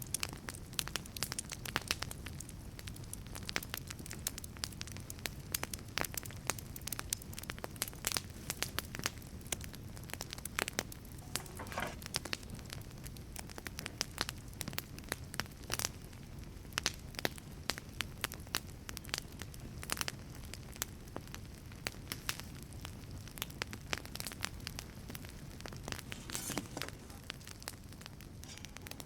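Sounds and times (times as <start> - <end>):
wood fire crackling: 0.1 - 29.0.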